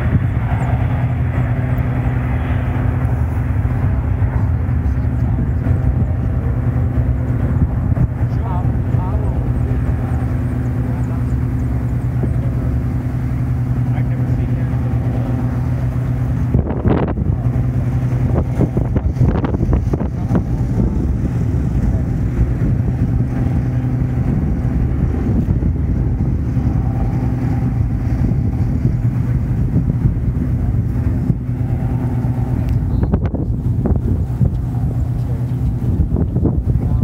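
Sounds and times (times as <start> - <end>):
aircraft engines running: 0.0 - 37.0.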